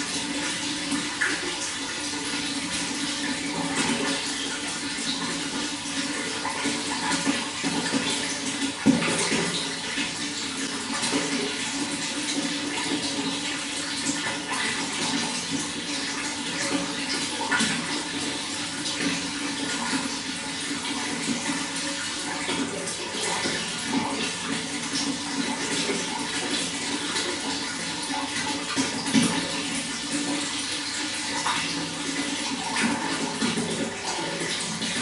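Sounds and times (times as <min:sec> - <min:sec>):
running water flowing: 0:00.0 - 0:35.0.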